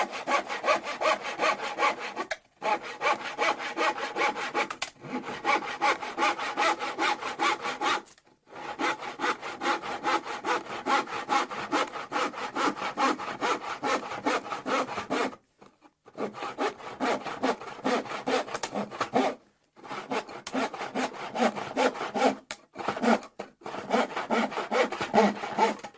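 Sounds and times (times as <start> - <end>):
hand saw cutting wood: 0.0 - 15.4, 16.0 - 25.9.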